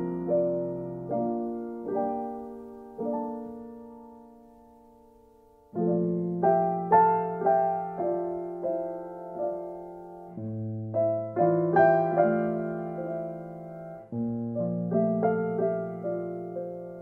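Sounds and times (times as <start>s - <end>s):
slow solo piano music: 0.0s - 17.0s.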